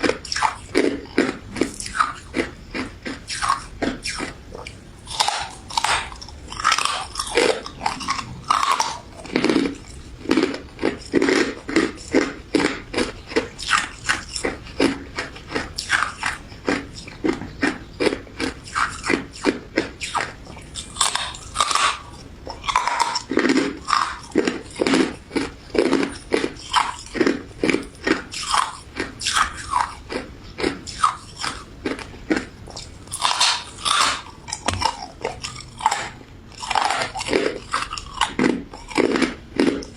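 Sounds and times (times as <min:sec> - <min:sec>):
crunchy ice dessert chewing: 0:00.0 - 0:39.9.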